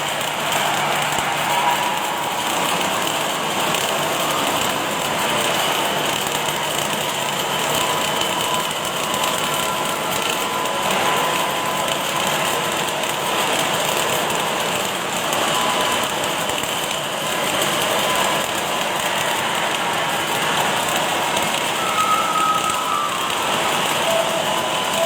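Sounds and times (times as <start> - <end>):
faint machine tones: 0.0 - 25.0
welding arc crackling hiss: 0.0 - 25.0.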